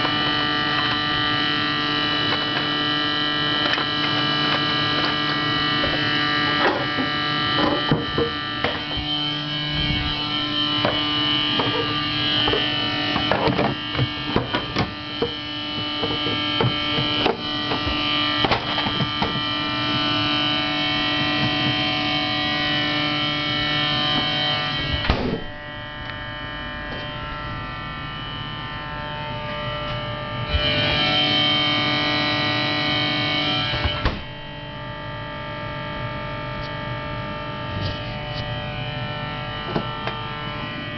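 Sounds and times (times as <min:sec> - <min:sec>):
refrigerator buzzing hum: 0:00.0 - 0:40.9.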